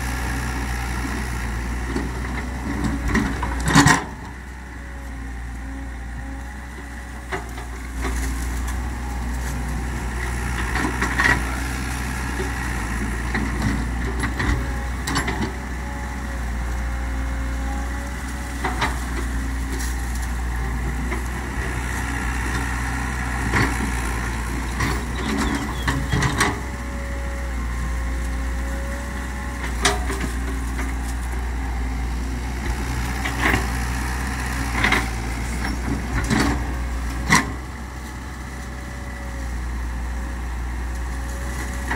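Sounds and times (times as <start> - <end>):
excavator engine drone: 0.0 - 41.9.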